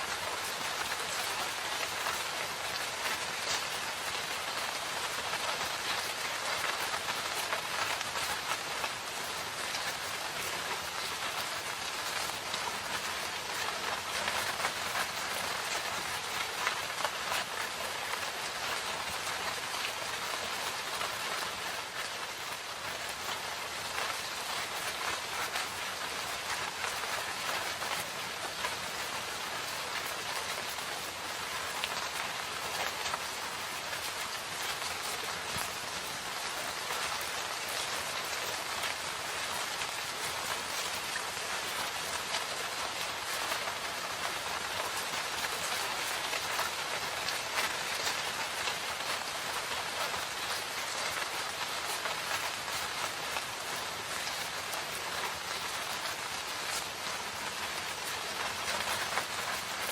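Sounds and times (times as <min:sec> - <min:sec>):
rain hissing: 0:00.0 - 0:59.9
raindrops ticking: 0:00.0 - 0:59.9.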